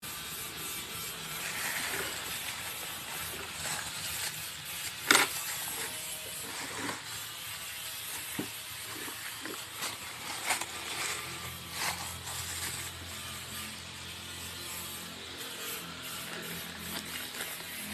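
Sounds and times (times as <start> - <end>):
polisher motor hum: 0.1 - 17.9
rubbing sounds: 0.5 - 13.8, 14.6 - 17.9.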